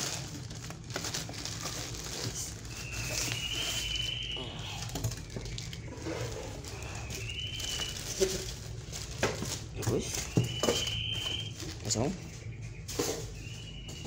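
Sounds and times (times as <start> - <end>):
plastic wrapping crinkling: 0.0 - 12.2.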